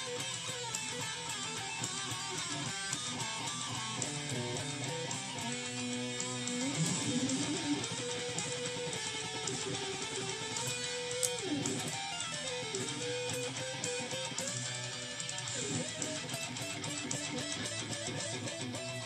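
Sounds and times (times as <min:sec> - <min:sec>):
backing track: 0:00.0 - 0:19.0
electric guitar lead lines: 0:00.0 - 0:19.0.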